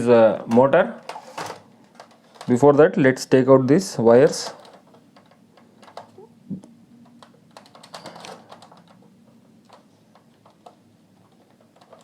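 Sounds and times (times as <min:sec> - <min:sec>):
hands detaching wires clicking: 0:00.5 - 0:02.6, 0:04.2 - 0:12.0.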